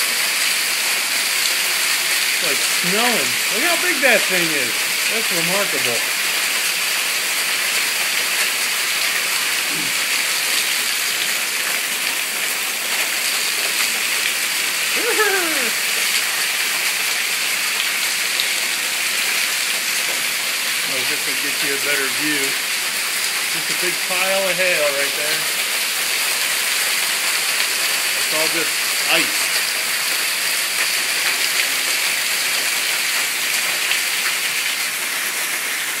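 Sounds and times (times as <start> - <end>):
hail pouring off roof: 0.0 - 36.0.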